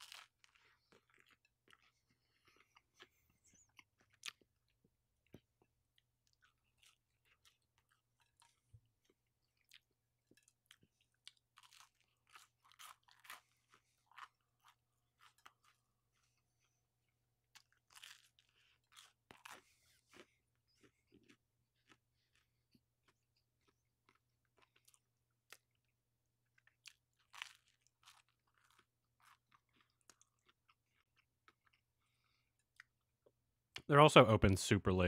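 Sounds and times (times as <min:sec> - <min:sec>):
chewing crunchy food: 0:00.0 - 0:33.9.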